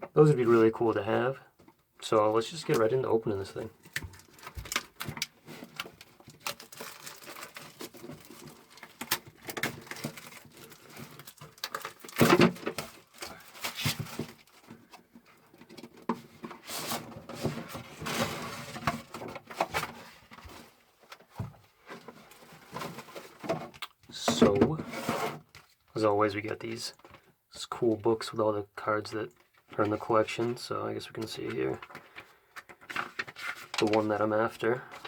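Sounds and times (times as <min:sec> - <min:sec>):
plastic and cardboard packaging rustling: 0:01.5 - 0:28.3, 0:29.0 - 0:35.0.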